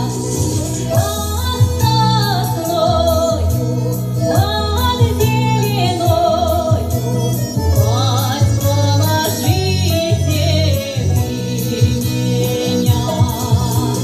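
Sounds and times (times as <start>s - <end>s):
song with singing voice: 0.0s - 14.0s
steady bass line: 0.0s - 14.0s.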